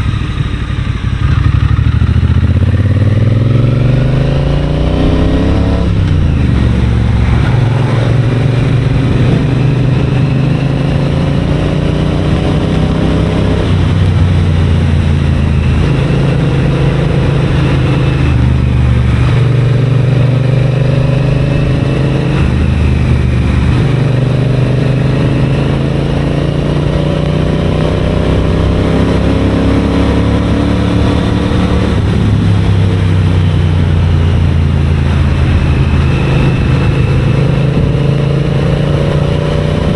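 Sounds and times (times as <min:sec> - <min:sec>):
motorcycle engine and exhaust: 0:00.0 - 0:39.9
wind and road noise: 0:00.0 - 0:39.9.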